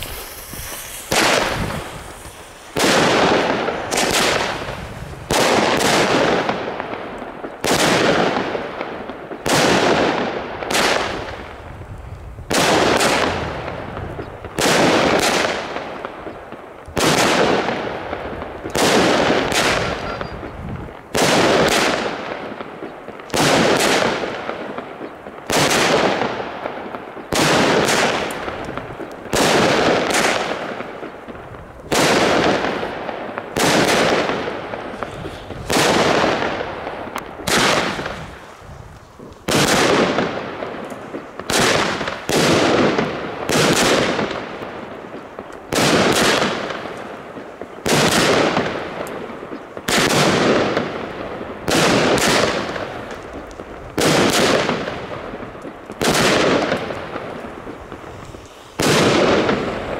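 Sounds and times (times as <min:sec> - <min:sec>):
fireworks banging: 0:00.0 - 0:59.9.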